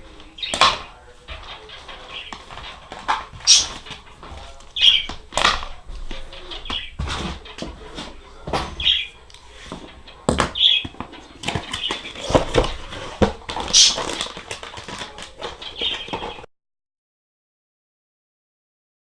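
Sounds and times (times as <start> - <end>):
packaging rustling: 0.0 - 8.1, 8.9 - 16.5.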